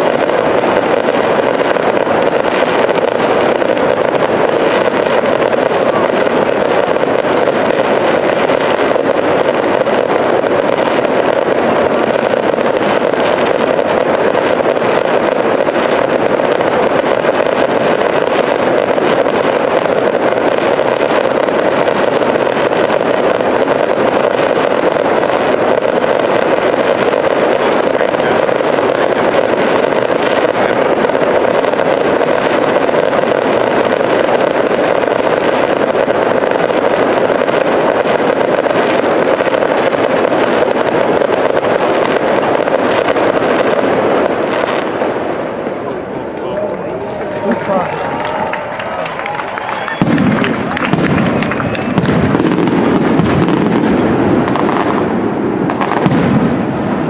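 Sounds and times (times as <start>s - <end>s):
fireworks bursts and crackle: 0.0s - 57.0s.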